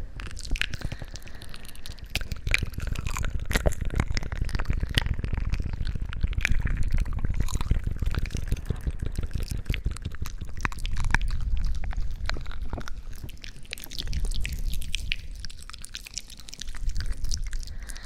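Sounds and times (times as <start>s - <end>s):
low rumble: 0.0s - 18.0s
sticky wet clicks and squishes: 0.0s - 18.0s.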